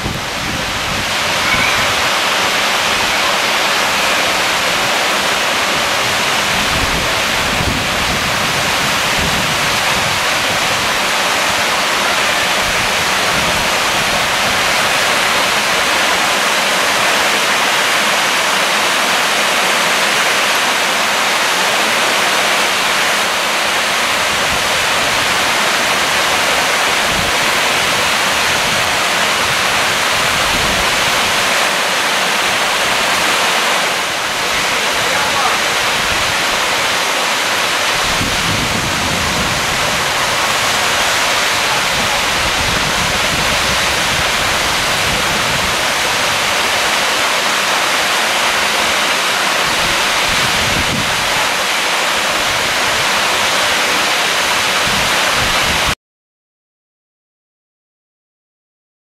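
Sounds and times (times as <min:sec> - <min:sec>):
floodwater rushing over paving: 0:00.0 - 0:56.0.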